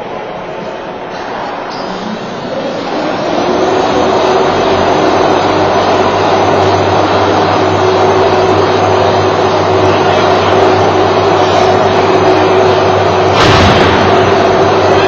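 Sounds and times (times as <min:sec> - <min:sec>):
mechanical whir with hum: 0:00.0 - 0:15.0.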